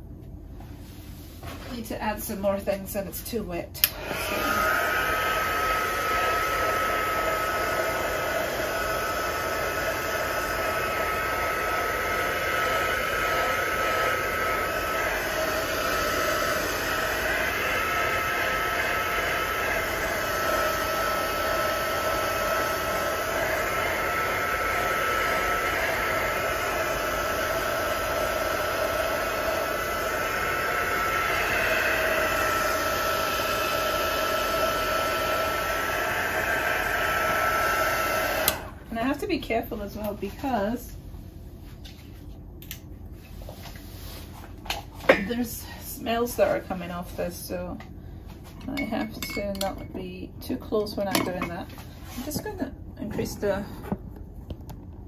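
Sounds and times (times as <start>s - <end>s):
hot-air blower whining: 0.0s - 55.0s.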